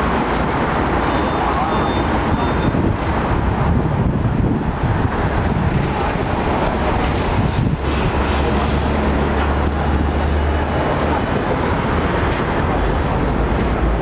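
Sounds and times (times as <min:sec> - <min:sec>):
street traffic noise: 0:00.0 - 0:14.0
tram rumbling on rails: 0:00.0 - 0:14.0.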